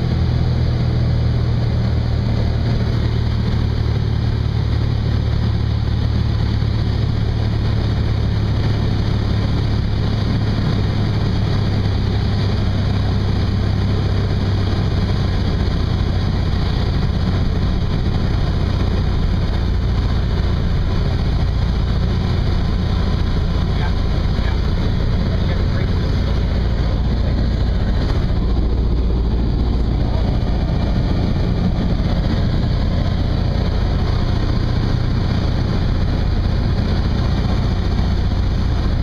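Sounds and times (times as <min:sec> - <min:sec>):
aircraft engine and propeller drone: 0:00.0 - 0:39.0.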